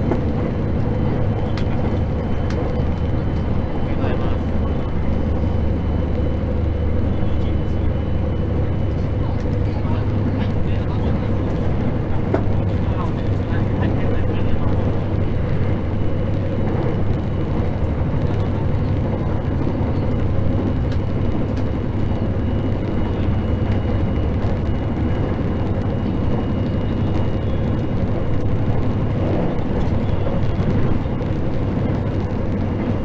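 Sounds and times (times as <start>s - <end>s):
train interior rumble: 0.0s - 33.0s.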